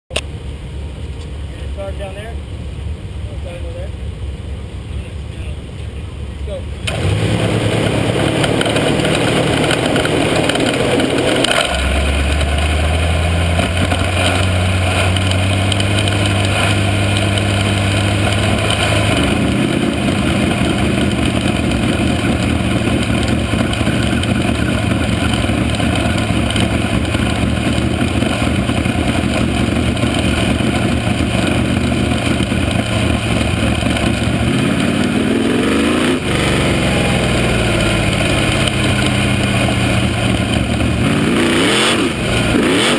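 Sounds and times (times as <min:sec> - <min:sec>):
race car engine revving: 0:04.9 - 0:42.9.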